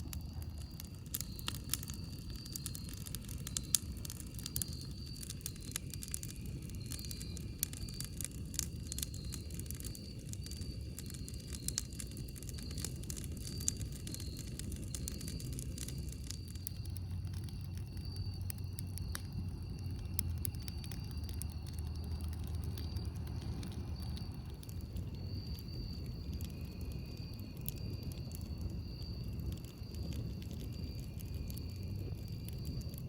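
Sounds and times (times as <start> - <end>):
campfire crackling and popping: 0.0 - 33.0
low fire rumble: 0.0 - 33.0.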